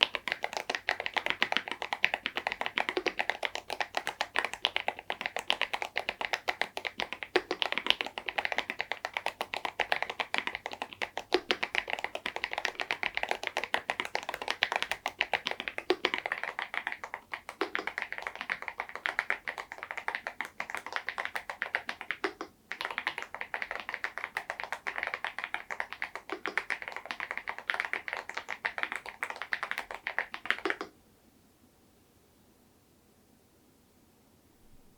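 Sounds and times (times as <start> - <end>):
fast typing on mechanical keyboard: 0.0 - 30.9.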